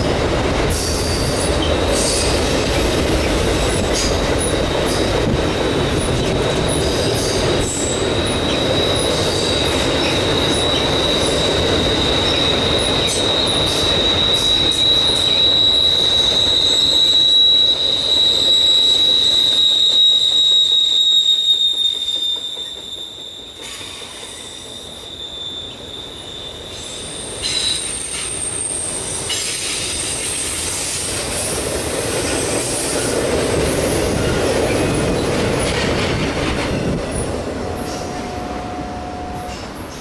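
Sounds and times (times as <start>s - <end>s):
freight train rolling past: 0.0s - 40.0s
train wheels squealing: 0.7s - 40.0s.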